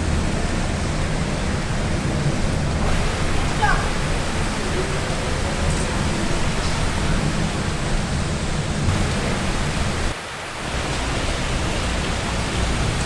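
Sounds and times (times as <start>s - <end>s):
heavy rain in strong wind: 0.0s - 13.0s.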